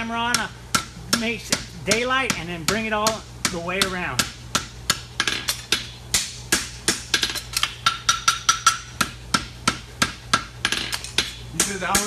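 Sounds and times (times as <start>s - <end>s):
hammer striking horseshoe on anvil: 0.0s - 12.0s.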